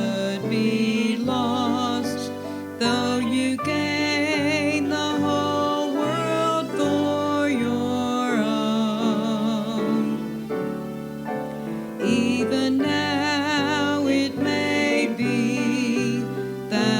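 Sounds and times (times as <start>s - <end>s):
person singing a hymn: 0.0s - 16.9s.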